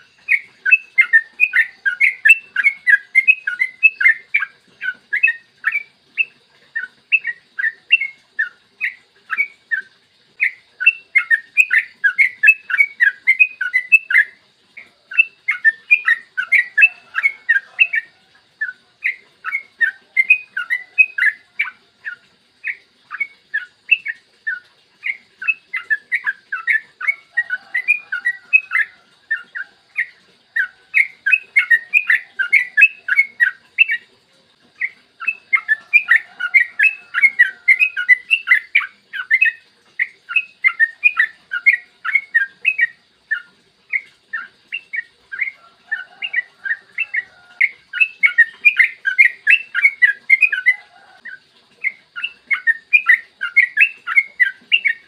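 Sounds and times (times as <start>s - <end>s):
bulbul singing bubbly phrases: 0.0s - 55.0s.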